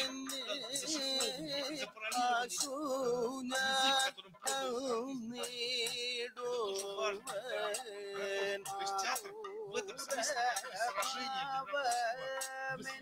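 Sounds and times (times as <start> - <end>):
man singing ornamented line: 0.0 - 13.0.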